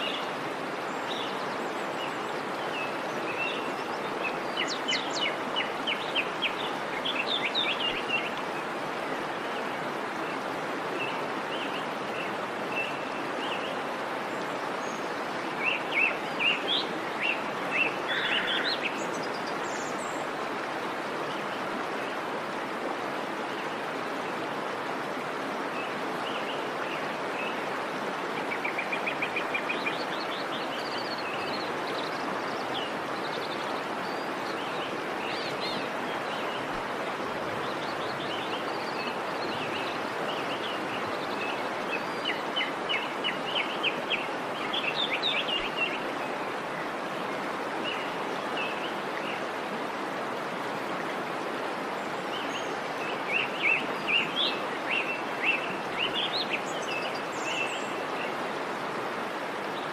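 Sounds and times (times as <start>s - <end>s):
songbirds chirping: 0.0s - 59.9s
waterfall water rushing: 0.0s - 59.9s.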